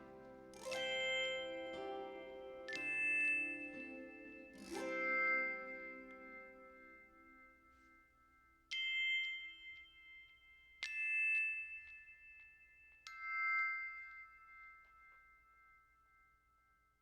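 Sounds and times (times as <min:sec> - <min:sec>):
bell-like chime notes: 0:00.0 - 0:16.6.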